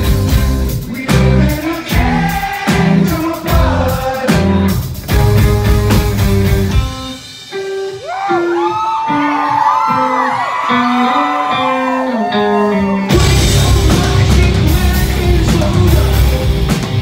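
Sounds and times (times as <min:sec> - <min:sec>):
electric guitar heavy chords: 0:00.0 - 0:17.0.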